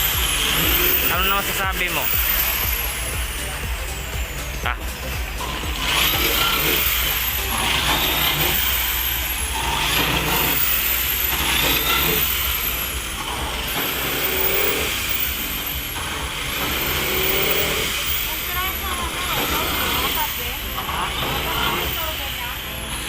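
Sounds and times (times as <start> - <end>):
constant low hum: 0.0 - 23.0
vehicles running steadily: 0.0 - 23.0.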